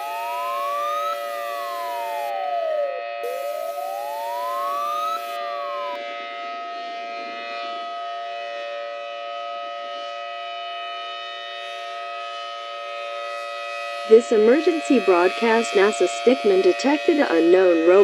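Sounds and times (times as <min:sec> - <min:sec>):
steady held siren tones: 0:00.0 - 0:18.0
wailing siren: 0:00.0 - 0:18.0.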